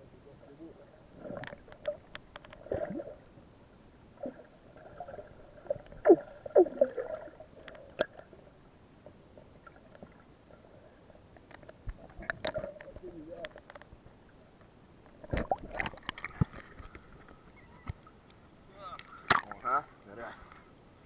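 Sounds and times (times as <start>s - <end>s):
water gurgling and sloshing: 0.6s - 20.8s.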